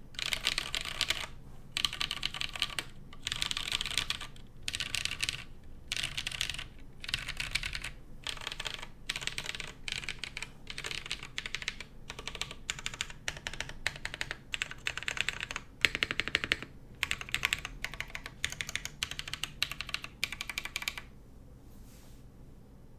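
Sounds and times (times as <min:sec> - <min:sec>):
mechanical keyboard typing: 0:00.2 - 0:21.1.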